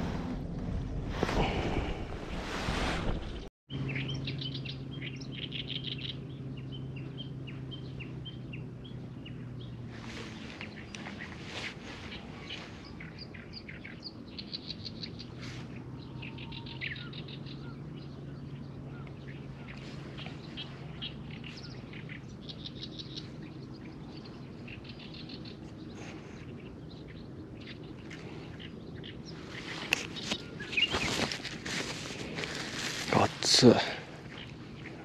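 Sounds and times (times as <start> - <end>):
small birds chirping: 3.2 - 35.0.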